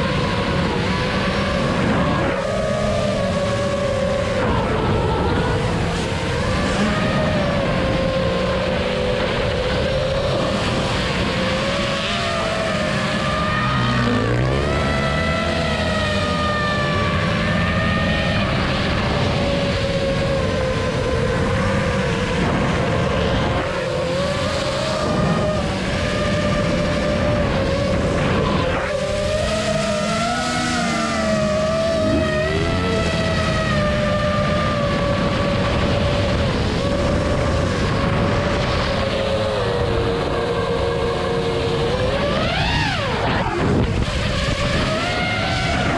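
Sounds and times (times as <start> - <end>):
quadcopter motors whining: 0.0 - 45.9.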